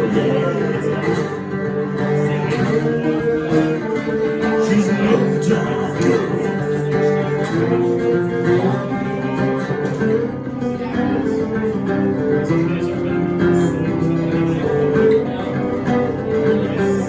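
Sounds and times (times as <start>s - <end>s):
live blues band instrumental: 0.0s - 17.0s.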